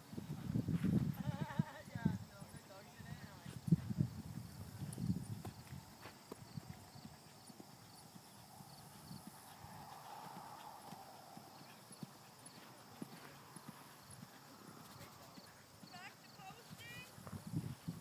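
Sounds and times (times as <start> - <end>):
hooves thudding on sand: 2.5 - 18.0.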